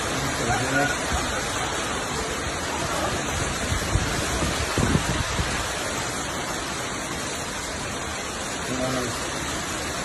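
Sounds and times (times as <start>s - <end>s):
heavy rain and wind: 0.0s - 10.0s.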